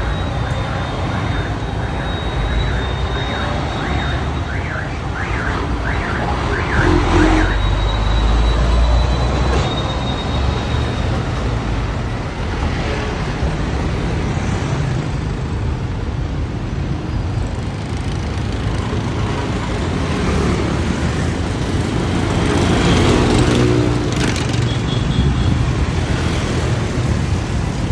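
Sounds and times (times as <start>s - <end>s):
street traffic: 0.0s - 27.9s.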